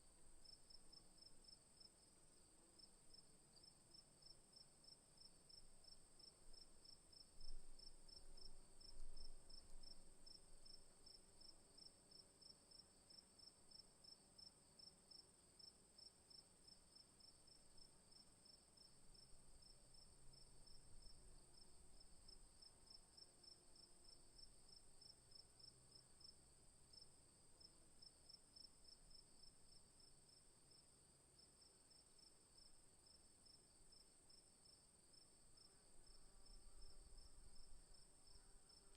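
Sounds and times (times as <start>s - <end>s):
rapid cricket chirps: 0.0s - 38.9s.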